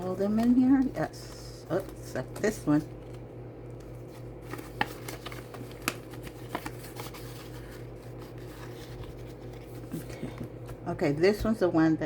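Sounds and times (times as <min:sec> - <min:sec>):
paper cards rustling: 0:00.0 - 0:11.3
steady low hum: 0:00.0 - 0:12.0.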